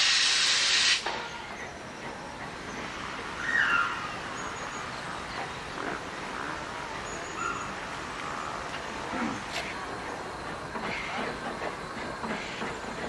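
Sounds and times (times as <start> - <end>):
steam hissing: 0.0 - 13.0
birds calling: 1.1 - 13.0.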